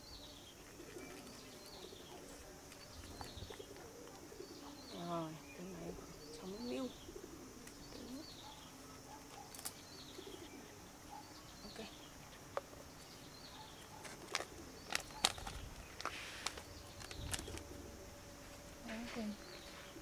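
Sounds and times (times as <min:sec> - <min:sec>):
birds chirping: 0:00.0 - 0:20.0
rustle: 0:00.0 - 0:20.0.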